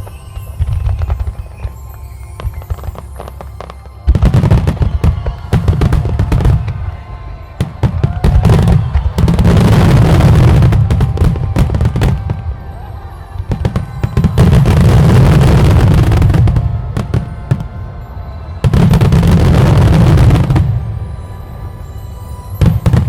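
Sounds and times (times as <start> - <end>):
fireworks bursting and crackling: 0.0 - 23.0
music from loudspeakers: 0.0 - 23.0.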